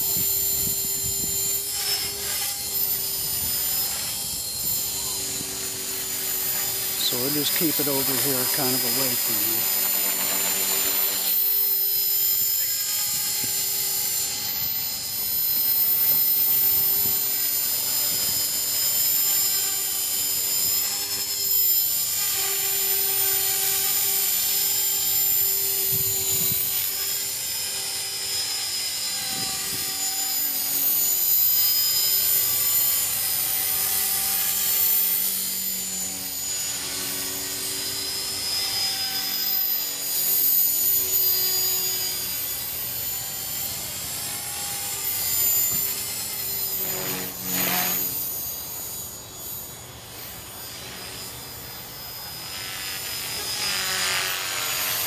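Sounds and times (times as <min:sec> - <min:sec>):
helicopter rotor: 0:00.0 - 0:55.0
rc helicopter motor whine: 0:00.0 - 0:55.0.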